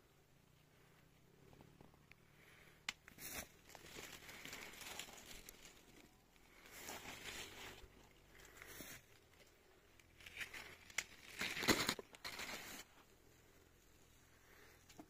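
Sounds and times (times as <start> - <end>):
faint rustling and crinkling: 0.7 - 15.0.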